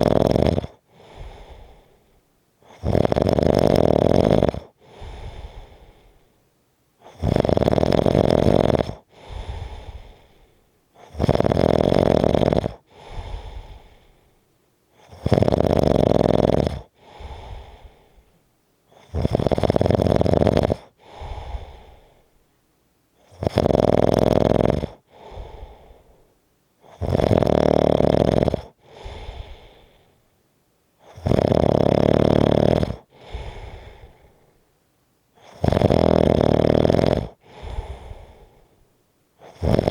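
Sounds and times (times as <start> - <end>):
person snoring heavily: 0.0 - 2.0, 2.6 - 6.1, 7.0 - 14.2, 15.0 - 18.2, 18.9 - 22.2, 23.2 - 26.2, 26.8 - 30.1, 31.0 - 34.5, 35.4 - 38.7, 39.4 - 39.9.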